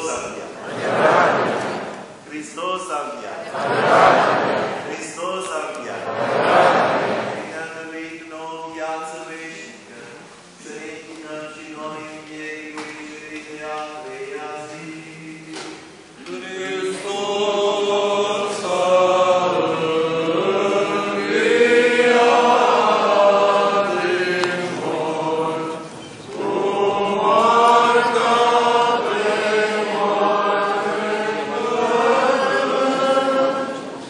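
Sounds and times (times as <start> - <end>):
group singing church chant: 0.0 - 2.2, 3.2 - 34.0.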